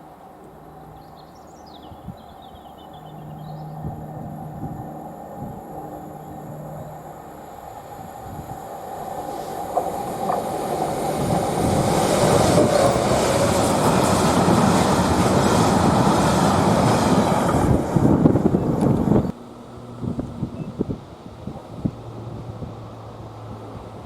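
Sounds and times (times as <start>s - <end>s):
train passing on track: 0.0s - 24.0s.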